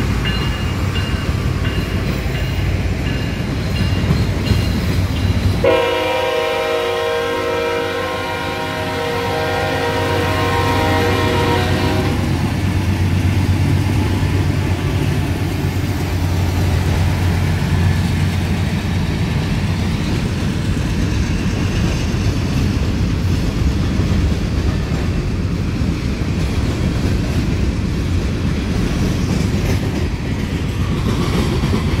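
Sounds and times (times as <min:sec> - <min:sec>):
train wheel clatter: 0:00.0 - 0:06.6, 0:09.7 - 0:32.0
locomotive engine drone: 0:00.0 - 0:32.0
train cars rumbling: 0:00.0 - 0:32.0.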